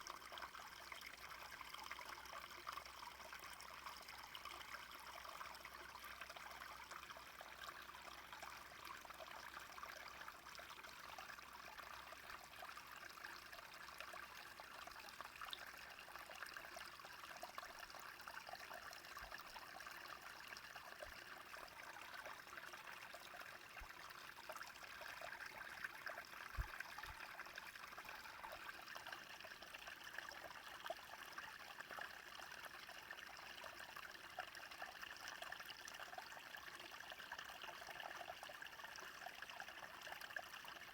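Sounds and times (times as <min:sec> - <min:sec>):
brook trickling: 0:00.0 - 0:40.9.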